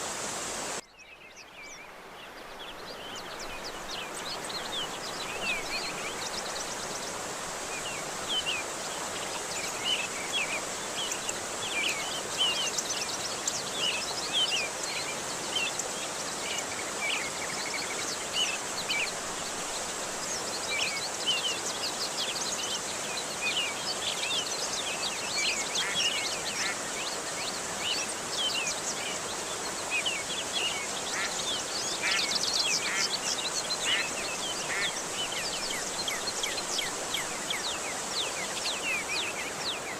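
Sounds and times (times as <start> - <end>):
rushing water: 0.0 - 39.9
birds chirping: 0.9 - 39.9.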